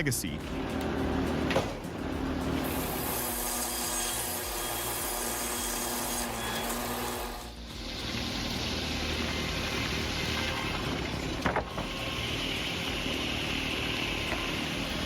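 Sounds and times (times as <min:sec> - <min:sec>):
circular saw cutting log: 0:00.4 - 0:15.0.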